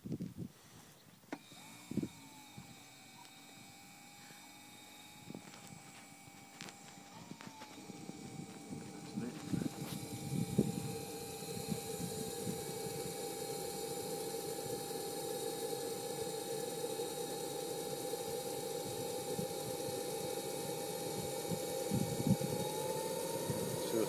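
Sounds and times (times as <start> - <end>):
model helicopter whine: 1.4 - 24.0.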